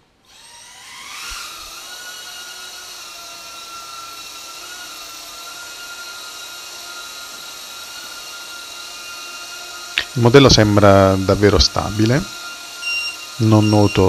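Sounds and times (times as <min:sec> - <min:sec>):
quadcopter motors whining: 0:00.2 - 0:14.0.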